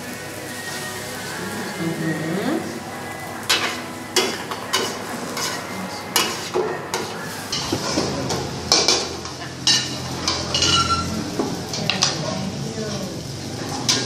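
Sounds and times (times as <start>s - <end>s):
noodles sizzling: 0.0s - 14.0s
spatula scraping wok: 0.5s - 14.0s.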